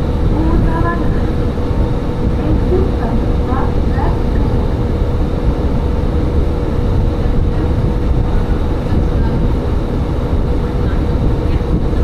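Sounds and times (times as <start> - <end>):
diesel railcar rumbling on rails: 0.0 - 12.0
thin steady hum: 0.0 - 12.0.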